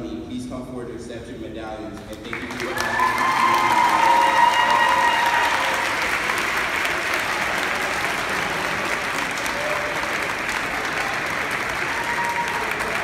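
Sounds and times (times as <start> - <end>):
crowd applauding: 2.0 - 13.0.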